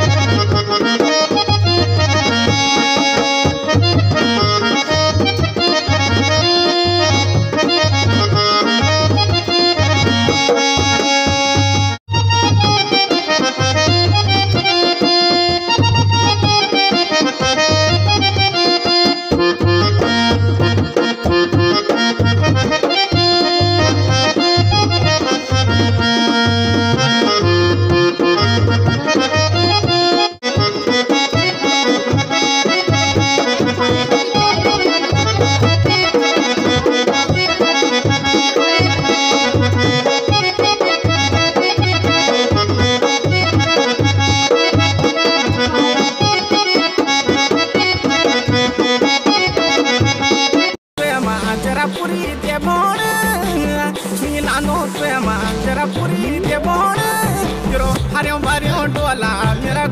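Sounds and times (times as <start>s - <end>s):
dholak hand-drumming: 0.0s - 59.9s
electronic keyboard melody: 0.0s - 59.9s.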